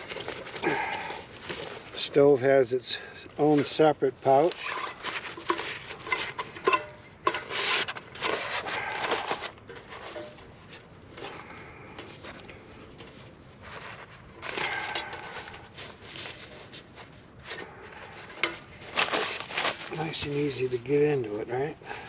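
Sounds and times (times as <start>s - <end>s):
stove rustling and scraping: 0.0s - 22.0s.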